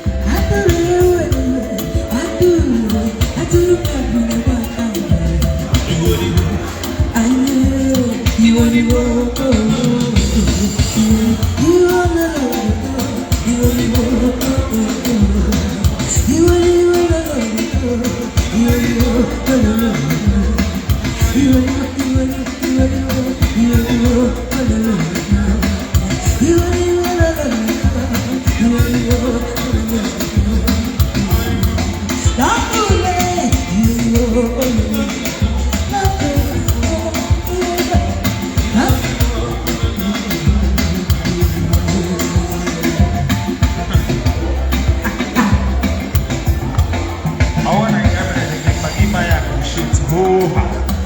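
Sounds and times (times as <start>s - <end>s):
drum beats: 0.0s - 51.0s
heavy bass line: 0.0s - 51.0s
live band music: 0.0s - 51.0s
person singing: 0.0s - 51.0s.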